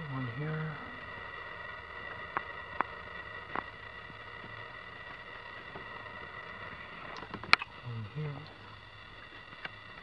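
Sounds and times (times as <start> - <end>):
faint high-pitched hum: 0.0 - 10.0.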